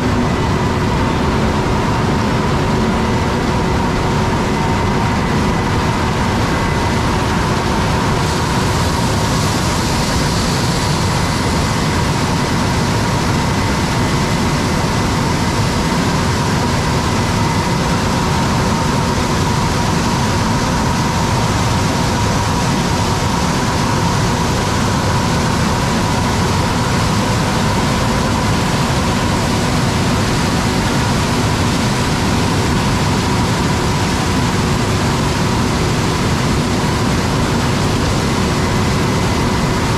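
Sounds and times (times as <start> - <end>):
combine harvester engine rumble: 0.0 - 39.9
constant machine whine: 0.0 - 39.9.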